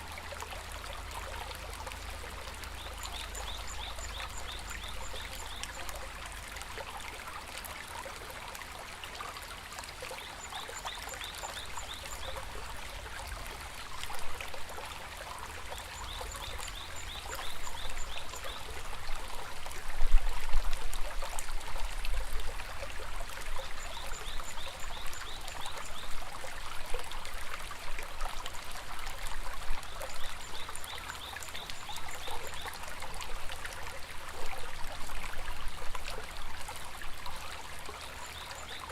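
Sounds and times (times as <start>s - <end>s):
river water flowing over stones: 0.0s - 38.9s.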